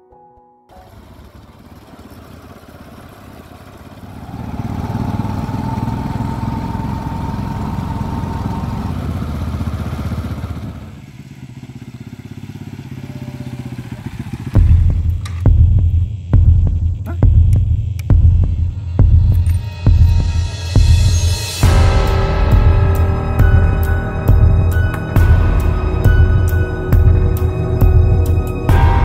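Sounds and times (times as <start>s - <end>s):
motorcycle engine running: 0.7s - 29.0s.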